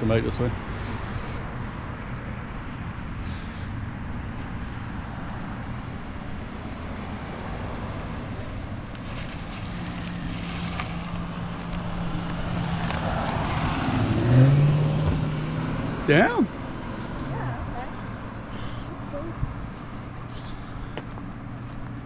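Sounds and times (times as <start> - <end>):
car engine humming: 0.0 - 22.0
road noise: 0.0 - 22.0.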